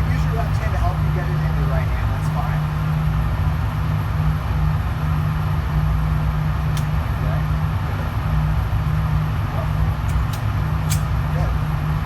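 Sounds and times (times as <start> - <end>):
ventilation humming: 0.0 - 12.0.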